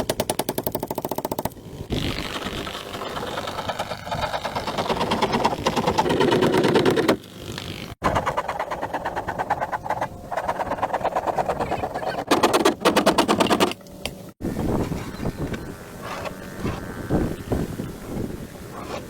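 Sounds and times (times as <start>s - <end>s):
small motorbike engine popping: 0.0s - 19.0s.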